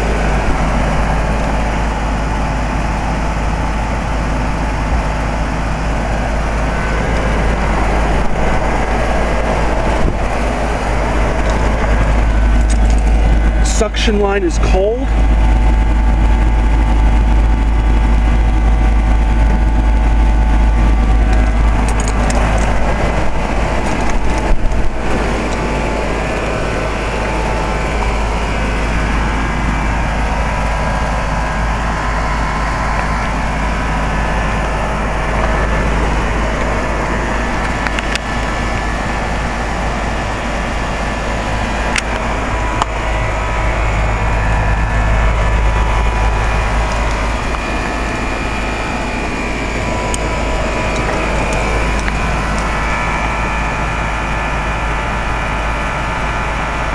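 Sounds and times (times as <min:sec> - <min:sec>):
condenser fan blowing: 0:00.0 - 0:56.9
heat pump compressor humming: 0:00.0 - 0:56.9.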